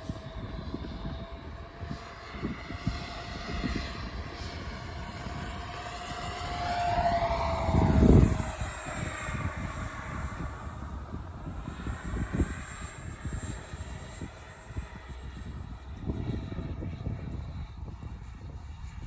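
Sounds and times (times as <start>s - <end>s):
electric ducted fans whining: 0.0s - 19.0s
wind buffeting microphone: 0.0s - 19.0s.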